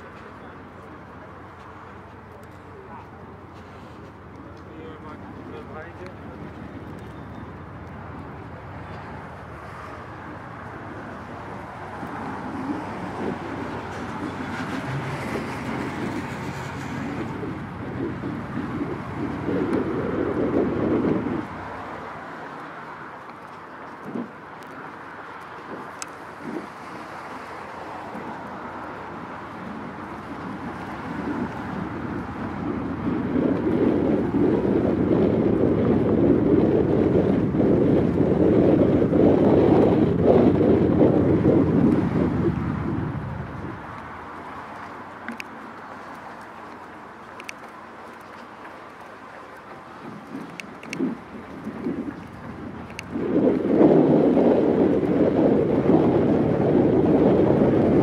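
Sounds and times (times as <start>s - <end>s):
traffic rumble: 0.0s - 58.0s
wind buffeting microphone: 0.0s - 58.0s.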